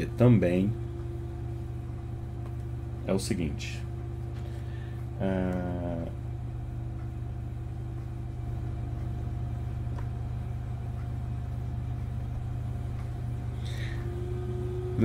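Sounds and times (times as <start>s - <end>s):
faint steady tones: 0.0s - 15.0s
low background hum: 0.0s - 15.0s.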